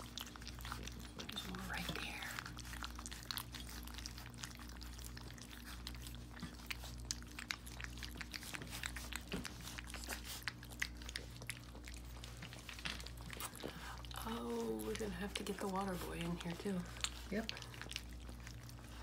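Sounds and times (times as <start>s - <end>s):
puppies lapping from metal pan: 0.0s - 19.0s.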